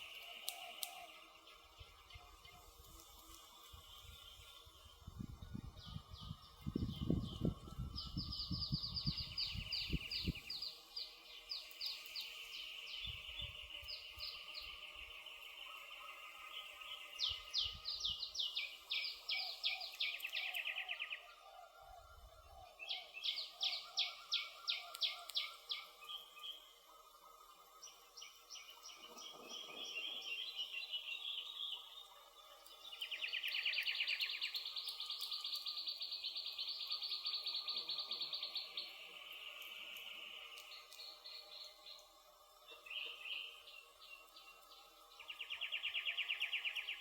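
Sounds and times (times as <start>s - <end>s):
faint campfire crackles: 0.0s - 47.0s
songbirds singing: 0.0s - 47.0s.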